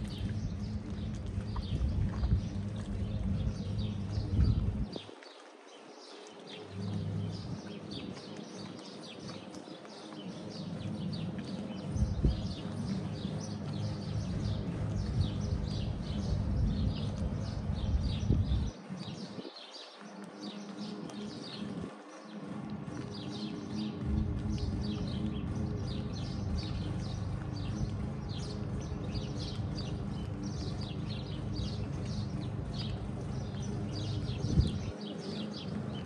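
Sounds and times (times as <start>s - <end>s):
low rumble: 0.0s - 5.1s, 10.3s - 19.5s, 20.8s - 36.0s
small birds chirping: 0.0s - 36.0s.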